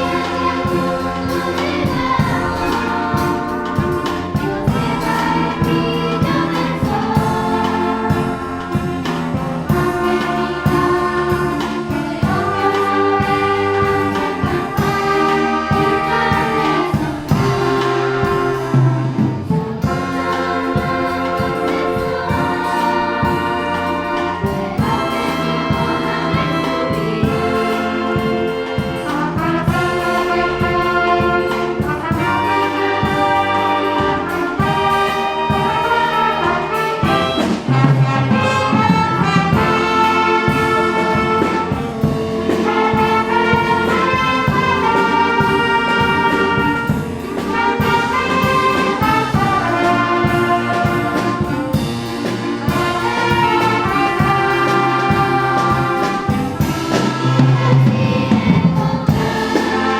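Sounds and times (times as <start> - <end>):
brass ensemble music: 0.0 - 59.9.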